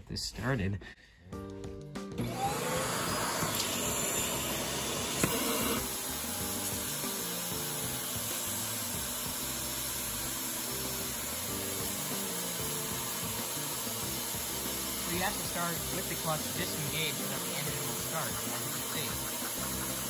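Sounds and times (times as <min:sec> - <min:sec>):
vacuum cleaner motor whine: 0:02.2 - 0:20.0.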